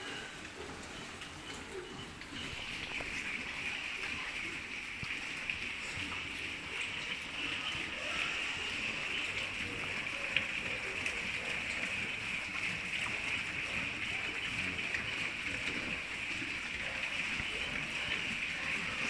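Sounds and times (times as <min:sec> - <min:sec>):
piglets clicking and shuffling: 0:00.0 - 0:19.0.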